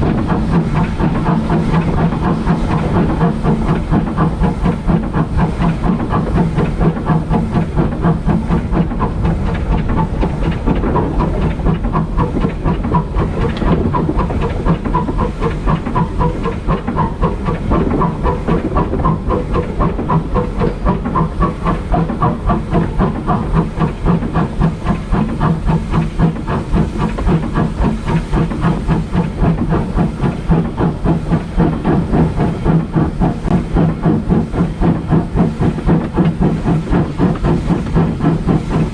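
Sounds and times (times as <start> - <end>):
steam hissing: 0.0 - 38.9
steam locomotive exhaust chuffing: 0.0 - 38.9.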